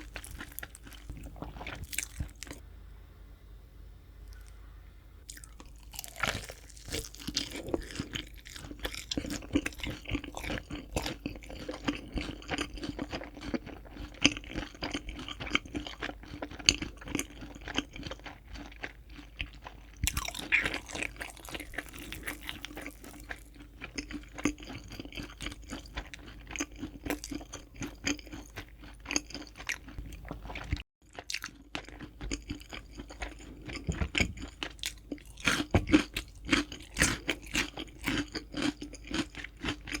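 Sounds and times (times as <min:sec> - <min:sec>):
chewing crispy fried chicken: 0:00.0 - 0:02.6, 0:05.3 - 0:40.0.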